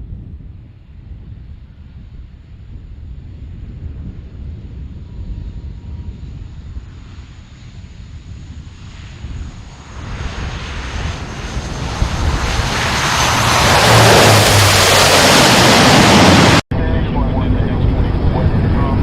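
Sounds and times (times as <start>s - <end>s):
airplane engine roar: 0.0s - 19.0s.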